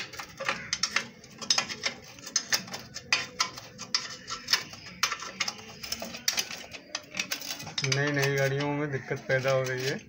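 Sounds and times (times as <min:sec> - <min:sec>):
spanner clicking on bolts: 0:00.0 - 0:08.8.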